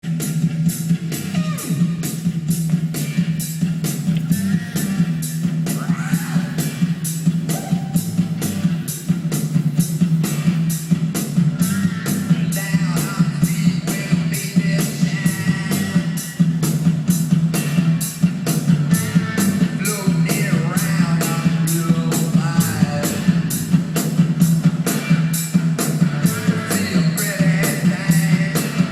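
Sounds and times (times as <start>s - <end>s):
rock music through speakers: 0.0s - 28.9s.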